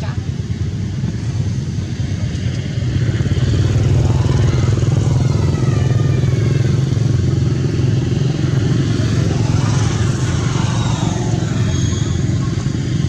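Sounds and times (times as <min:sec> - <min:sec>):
motor engine rumbling: 0:00.0 - 0:13.0.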